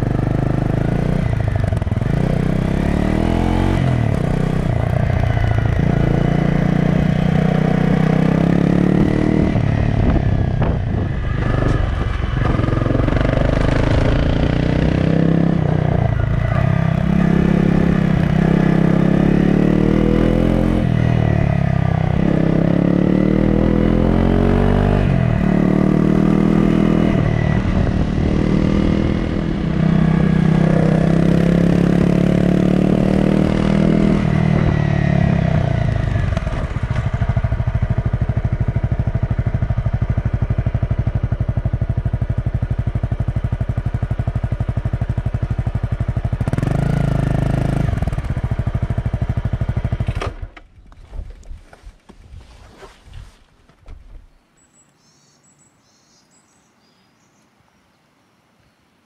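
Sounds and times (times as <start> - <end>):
motorcycle engine revving: 0.0 - 50.8.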